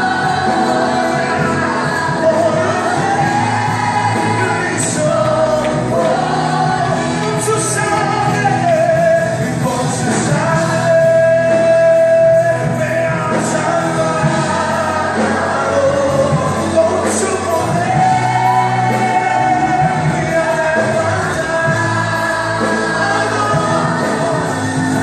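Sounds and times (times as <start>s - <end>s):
group of vocalists singing: 0.0s - 25.0s
praise band with keyboard: 0.0s - 25.0s.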